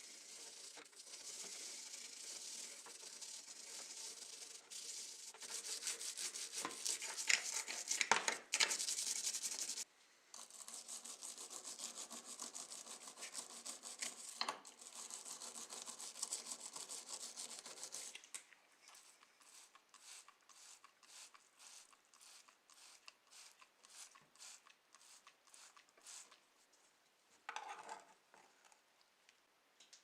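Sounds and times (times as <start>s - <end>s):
hand scrubbing a surface: 0.0s - 18.2s, 18.9s - 26.4s.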